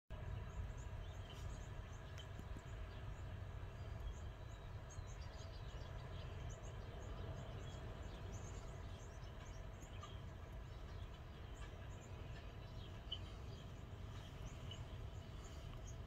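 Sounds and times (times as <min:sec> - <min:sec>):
low steady rumble: 0:00.1 - 0:16.0
songbirds chirping: 0:00.1 - 0:16.0.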